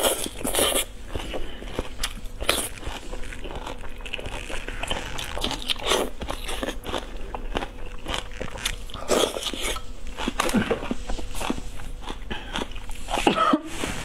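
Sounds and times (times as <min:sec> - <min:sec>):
person chewing: 0:00.0 - 0:13.4.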